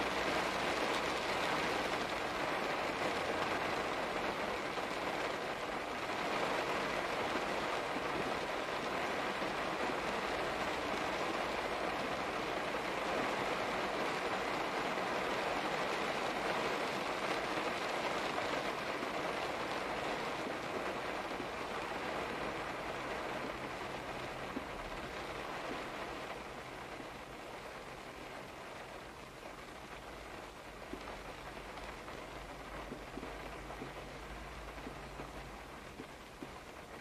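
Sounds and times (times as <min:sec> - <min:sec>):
steady rain hissing: 0:00.0 - 0:37.0.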